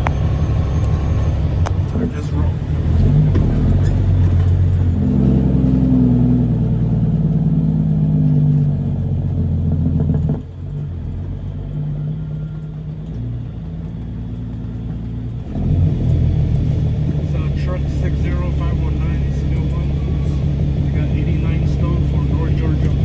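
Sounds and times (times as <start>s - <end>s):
diesel truck engine under load: 0.0s - 23.0s.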